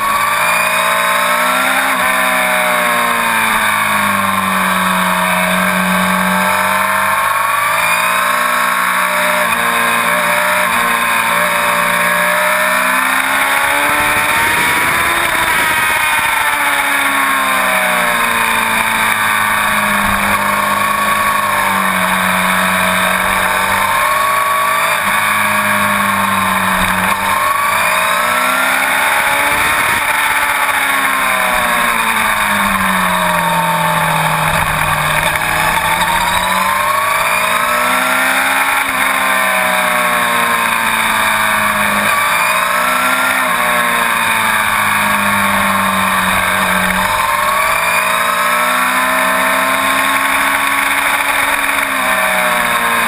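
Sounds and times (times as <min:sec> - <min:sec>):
motorcycle engine revving: 0:00.0 - 0:53.0
wind and road rush: 0:00.0 - 0:53.0.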